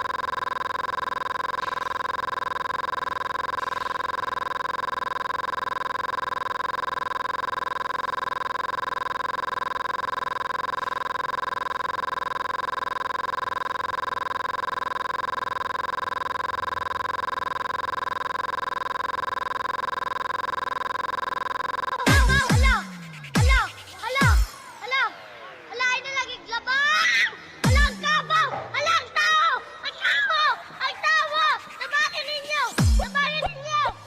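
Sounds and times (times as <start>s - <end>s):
steady electronic dial tone: 0.0s - 29.9s.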